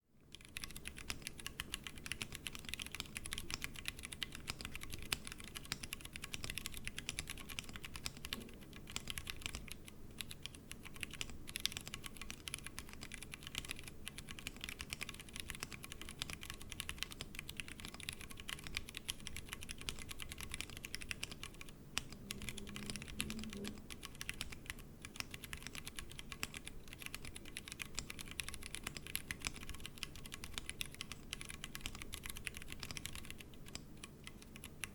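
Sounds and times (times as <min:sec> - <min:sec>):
mechanical keyboard typing: 0:00.3 - 0:34.9.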